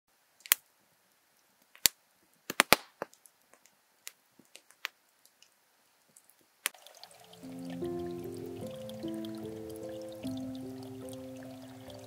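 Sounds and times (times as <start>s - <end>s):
campfire crackling and popping: 0.4s - 12.0s.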